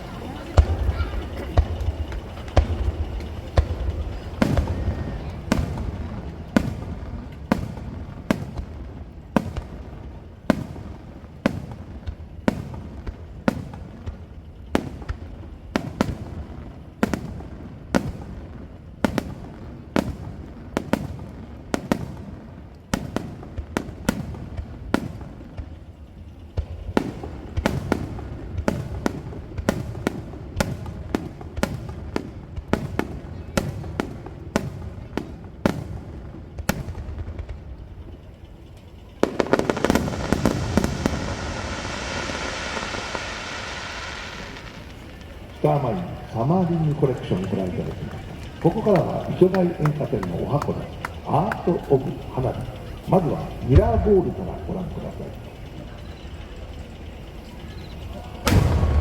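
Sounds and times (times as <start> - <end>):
firework shells bursting: 0.0 - 59.0
low rumble of echo: 0.0 - 59.0.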